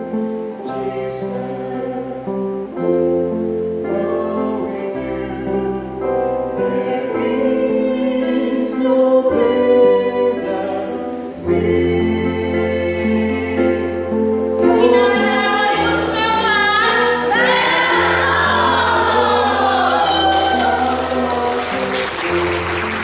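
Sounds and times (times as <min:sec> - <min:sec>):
slow song with singing: 0:00.0 - 0:23.0.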